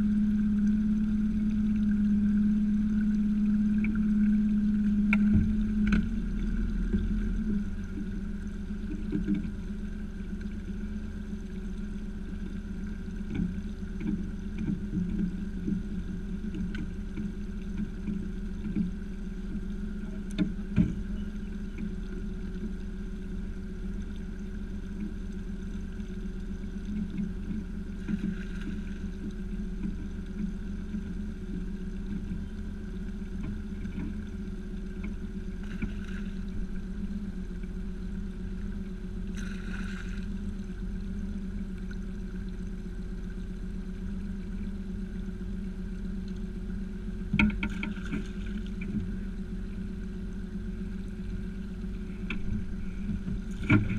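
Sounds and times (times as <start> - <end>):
boat motor humming: 0.0 - 53.9.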